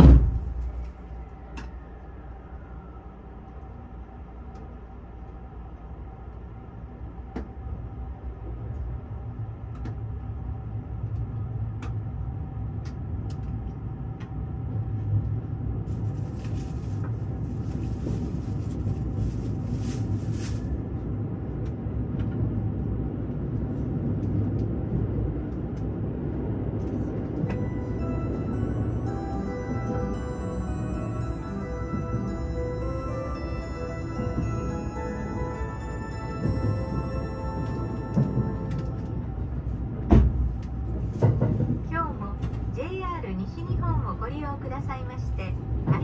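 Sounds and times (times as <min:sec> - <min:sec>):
train running rumble: 0:00.0 - 0:46.0.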